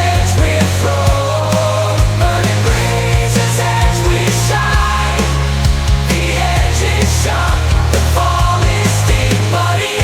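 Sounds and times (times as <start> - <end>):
steady bass line: 0.0 - 10.0.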